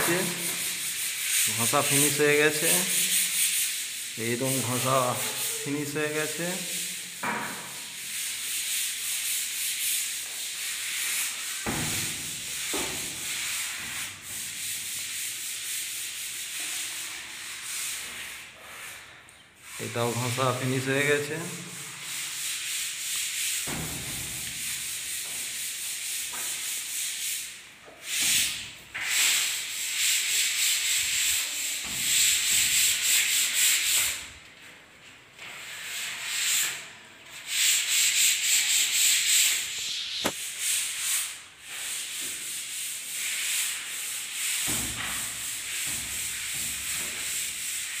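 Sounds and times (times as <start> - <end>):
sandpaper rasping on wall: 0.0 - 34.4, 35.4 - 48.0.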